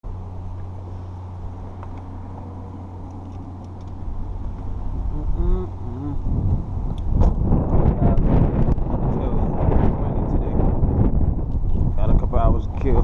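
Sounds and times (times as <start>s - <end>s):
low rumble: 0.0s - 13.0s
vehicle humming: 0.0s - 13.0s.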